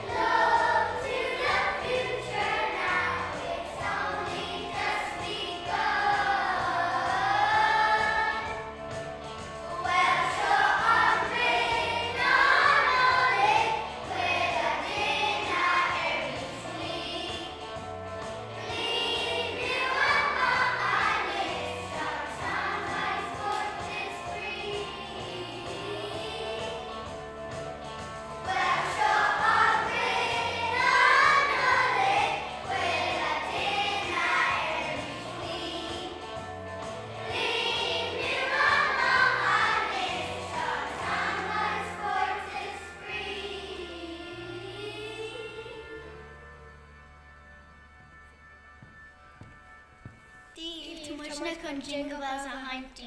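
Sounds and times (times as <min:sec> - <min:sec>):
children singing together: 0:00.0 - 0:27.3, 0:28.4 - 0:46.3
backing music: 0:00.0 - 0:53.0.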